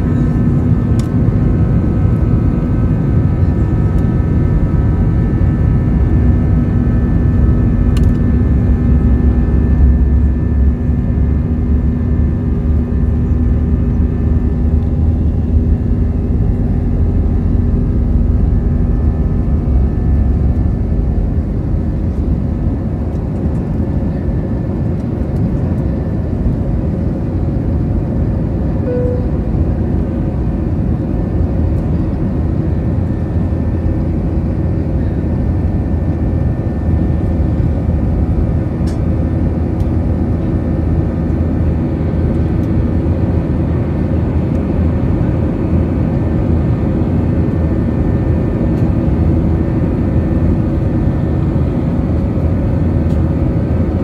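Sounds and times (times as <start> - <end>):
jet engines heard in cabin: 0.0 - 54.0
steady humming tones: 0.0 - 54.0.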